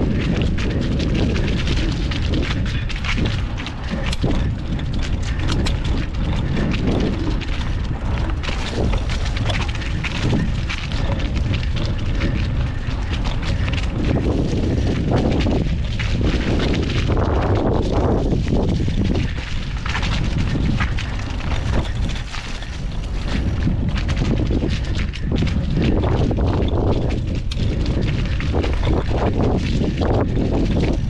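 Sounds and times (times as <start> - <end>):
bike tyres clicking and knocking: 0.0 - 31.0
wind rumble on microphone: 0.0 - 31.0.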